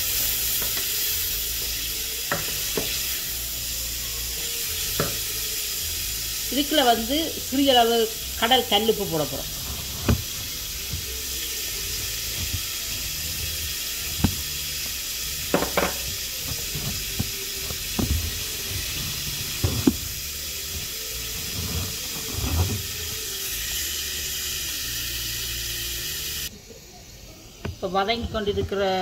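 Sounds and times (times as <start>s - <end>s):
vegetables sizzling in oil: 0.0s - 29.0s.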